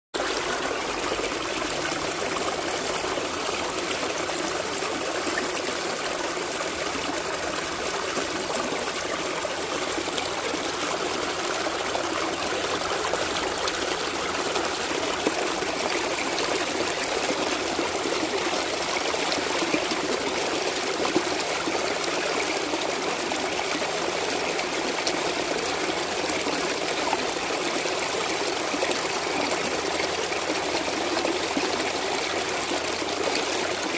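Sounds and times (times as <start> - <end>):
stream babbling over stones: 0.2 - 33.9.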